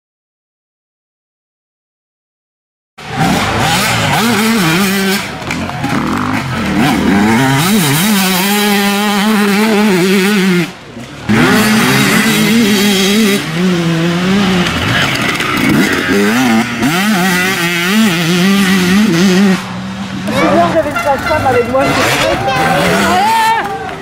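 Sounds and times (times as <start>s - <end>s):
dirt bike engines revving: 3.0s - 24.0s.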